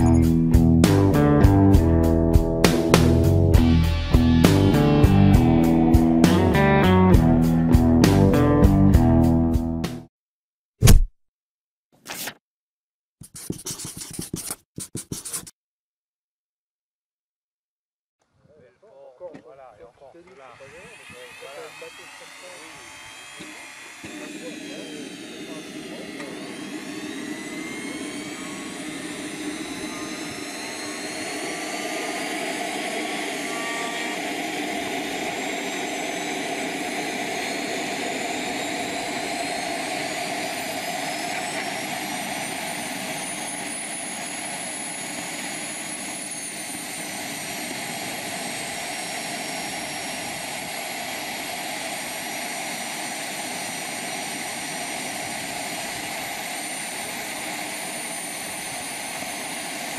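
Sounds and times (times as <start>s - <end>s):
turbine engines whining: 0.0s - 8.8s, 19.3s - 59.9s.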